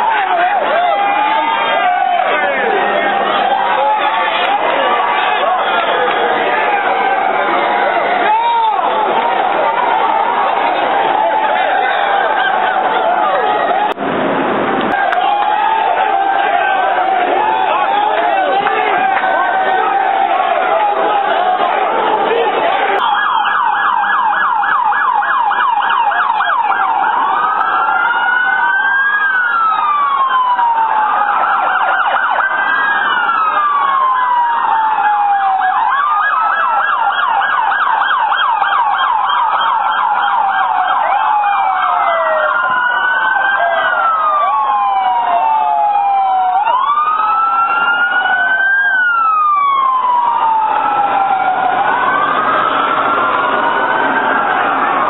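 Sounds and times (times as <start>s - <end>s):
police siren yelping: 0.0s - 14.0s, 14.9s - 55.0s
police siren wailing: 0.0s - 55.0s.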